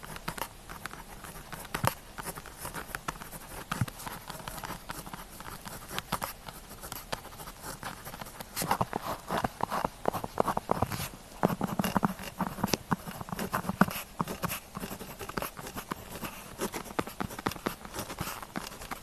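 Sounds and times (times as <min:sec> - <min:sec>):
pen scratching on paper: 0:00.0 - 0:19.0.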